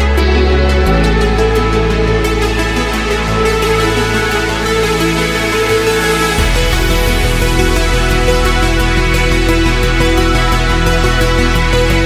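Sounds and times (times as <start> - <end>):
background music with held bass: 0.0 - 12.0.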